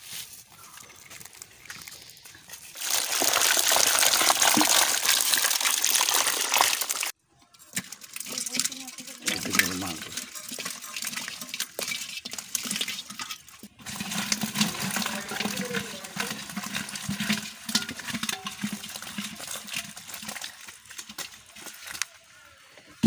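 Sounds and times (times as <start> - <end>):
fish splashing and slapping: 2.6 - 7.2, 7.8 - 22.4.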